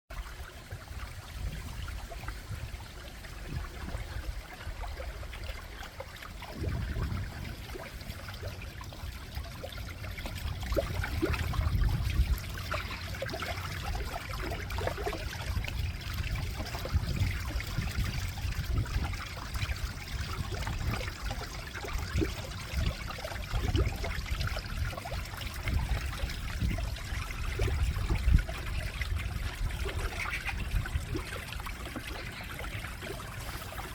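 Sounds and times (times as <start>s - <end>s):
stream trickling and gurgling: 0.1s - 33.9s.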